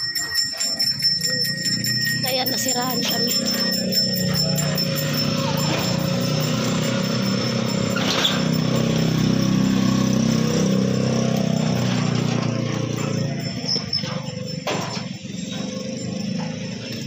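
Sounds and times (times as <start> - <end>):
motorcycle engine running: 0.6 - 17.0.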